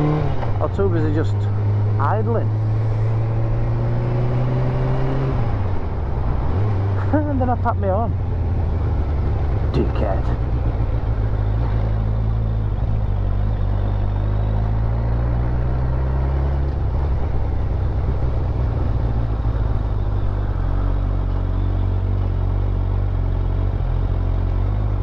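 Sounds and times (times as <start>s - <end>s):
motorcycle engine revving: 0.0s - 25.0s
wind and road noise: 0.0s - 25.0s.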